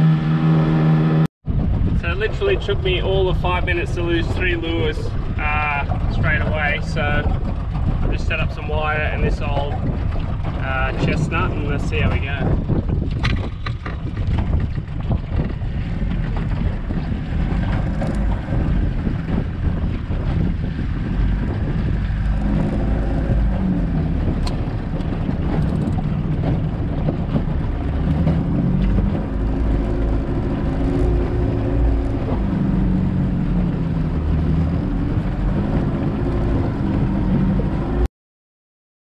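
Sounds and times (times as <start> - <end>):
outboard motor running: 0.0 - 38.1
wind rumbling on microphone: 0.0 - 38.1.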